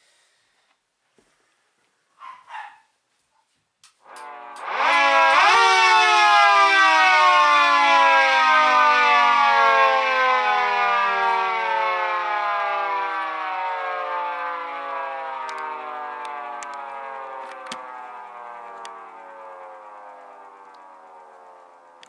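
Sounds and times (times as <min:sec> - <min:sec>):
dual-tone siren: 0:04.0 - 0:22.0.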